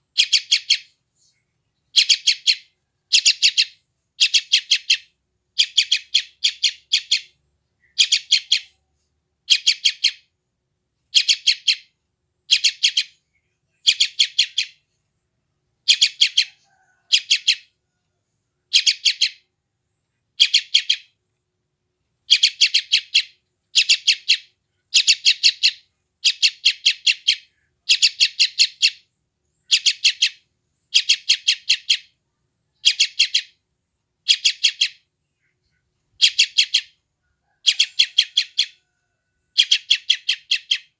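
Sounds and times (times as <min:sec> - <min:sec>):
bird chick chirping: 0:00.1 - 0:01.0, 0:01.8 - 0:08.9, 0:09.5 - 0:10.3, 0:11.1 - 0:11.9, 0:12.5 - 0:14.9, 0:15.8 - 0:19.5, 0:20.3 - 0:21.2, 0:22.3 - 0:33.6, 0:34.2 - 0:40.9.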